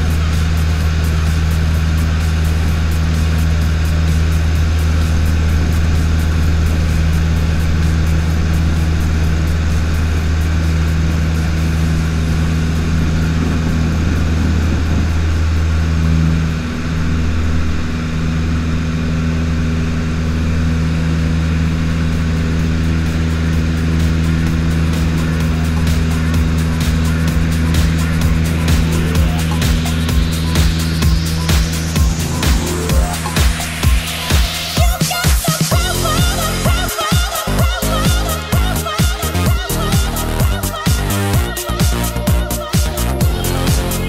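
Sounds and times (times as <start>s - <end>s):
propeller plane engine: 0.0s - 44.0s.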